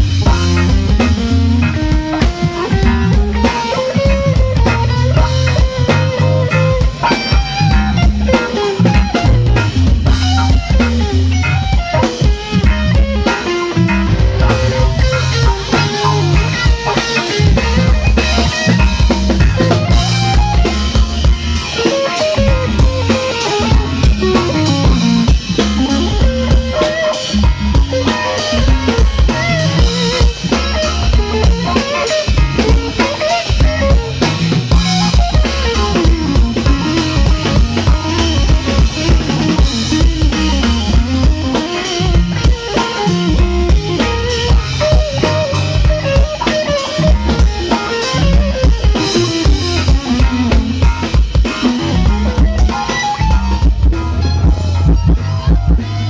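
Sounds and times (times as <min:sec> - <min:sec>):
bass drum: 0:00.0 - 0:56.0
drum kit groove: 0:00.0 - 0:56.0
electric guitar: 0:00.0 - 0:56.0
keyboard: 0:00.0 - 0:56.0.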